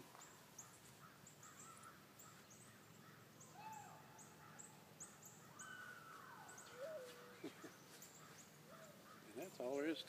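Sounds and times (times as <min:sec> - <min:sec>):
birds chirping: 0:00.0 - 0:10.0
longer lower bird call: 0:00.1 - 0:09.6.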